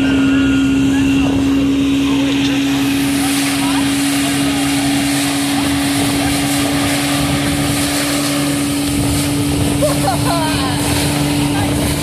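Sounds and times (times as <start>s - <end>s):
motorboat engine drone: 0.0s - 12.0s
rushing boat wake: 0.0s - 12.0s.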